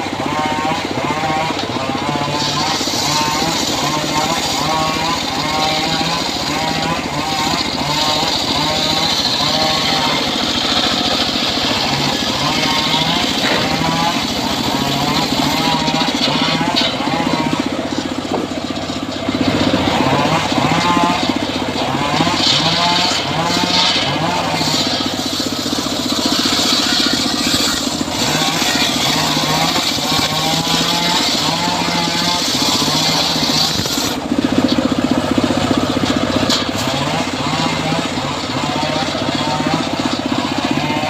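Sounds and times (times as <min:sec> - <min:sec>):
saw blade hissing through wood: 0:00.0 - 0:18.0, 0:19.0 - 0:34.3
sawmill engine running: 0:00.0 - 0:41.0.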